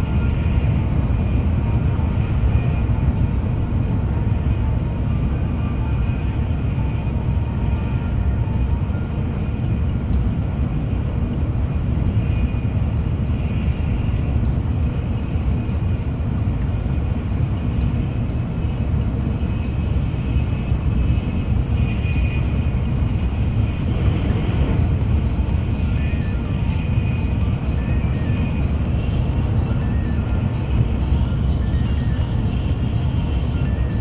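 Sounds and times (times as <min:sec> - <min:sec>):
train rumble inside cabin: 0:00.0 - 0:34.0.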